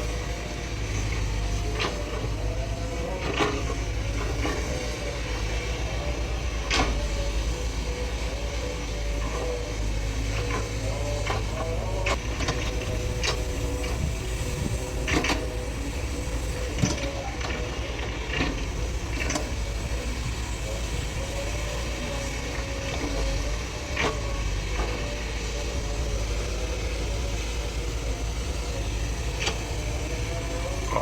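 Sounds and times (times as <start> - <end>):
excavator diesel engine running: 0.0 - 31.0
hydraulic whine: 0.0 - 31.0.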